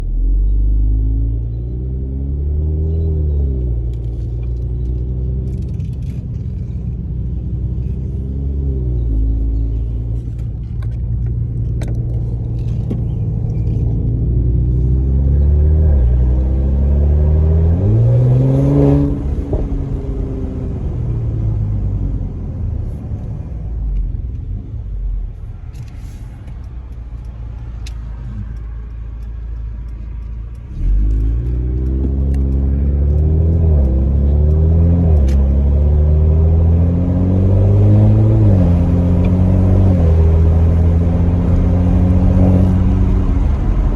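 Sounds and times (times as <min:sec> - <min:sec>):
car engine accelerating hard: 0:00.0 - 0:24.5, 0:27.9 - 0:43.9
exhaust cracks: 0:03.6 - 0:08.3, 0:09.0 - 0:16.6, 0:18.9 - 0:43.9.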